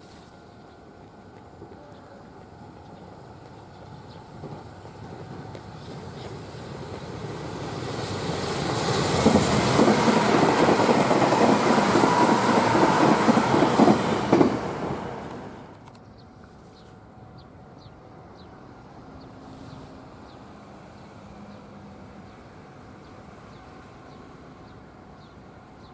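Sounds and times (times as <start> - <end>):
train passing at speed: 0.0 - 25.9.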